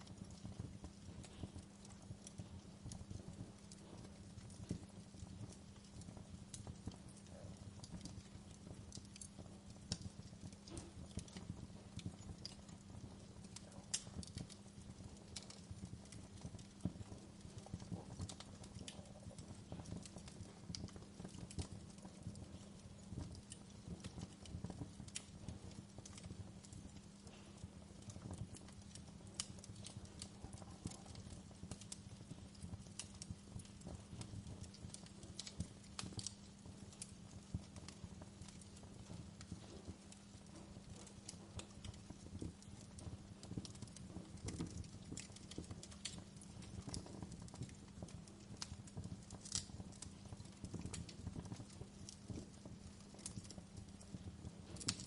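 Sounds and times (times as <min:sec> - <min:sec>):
fireplace crackling: 0:00.0 - 0:55.0.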